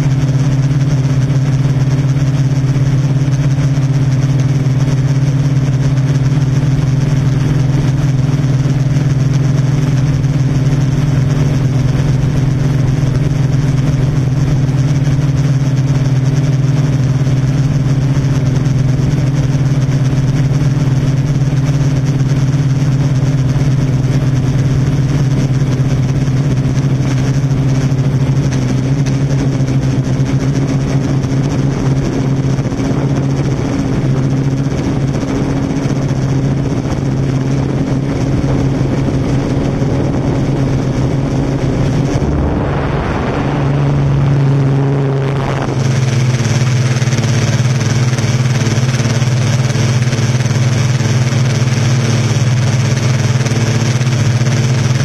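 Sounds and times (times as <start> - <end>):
drone motors humming: 0.0 - 55.0.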